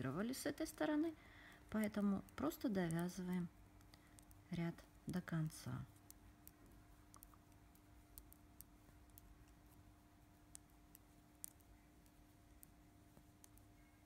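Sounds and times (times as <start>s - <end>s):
faint steady hum: 0.0s - 14.0s
knitting needles clicking: 0.0s - 14.0s.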